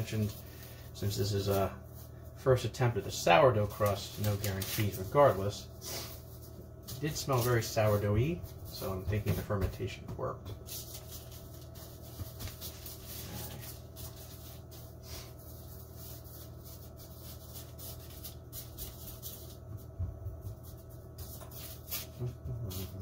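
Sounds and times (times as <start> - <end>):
parchment paper rustling: 0.0 - 9.6, 10.5 - 23.0.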